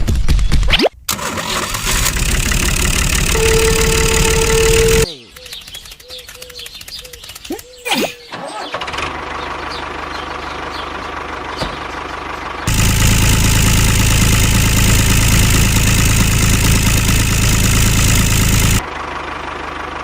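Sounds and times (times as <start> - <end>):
small engine running: 1.1 - 7.8, 8.6 - 20.0.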